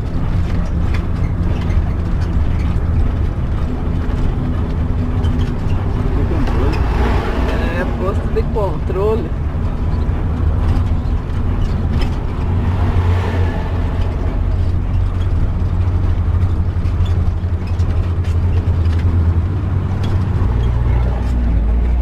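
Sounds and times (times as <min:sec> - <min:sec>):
bus engine running: 0:00.0 - 0:22.0
road noise: 0:00.0 - 0:22.0.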